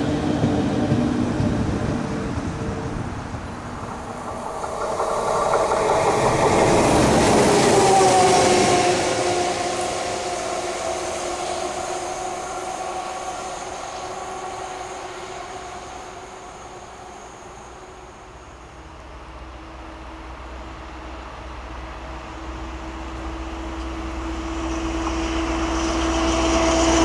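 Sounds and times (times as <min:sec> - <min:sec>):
locomotives passing: 0:00.0 - 0:27.0
thin high whine: 0:02.2 - 0:27.0.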